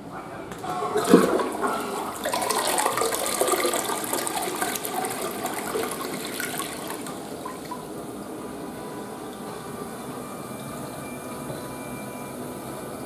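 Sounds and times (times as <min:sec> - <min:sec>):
toilet flushing: 0:00.5 - 0:13.0.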